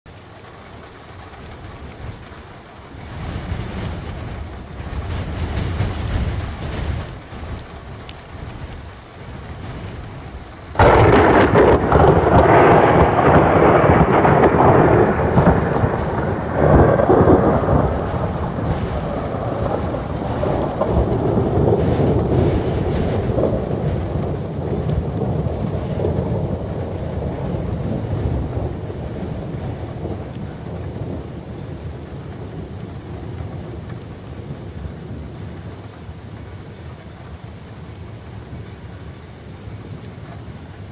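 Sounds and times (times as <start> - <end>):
thunder crack and rolling rumble: 0.1 - 40.9.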